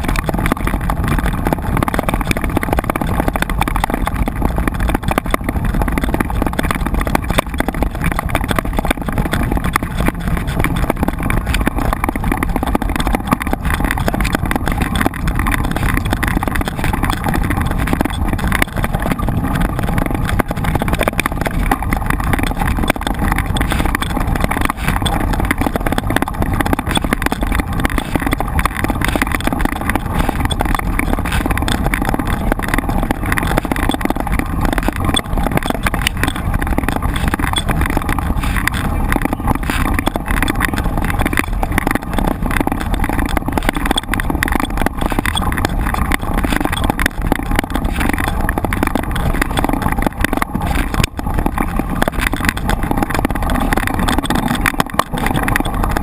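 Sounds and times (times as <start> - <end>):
bike tyre and frame rattle: 0.0 - 56.0
wind on microphone: 0.0 - 56.0.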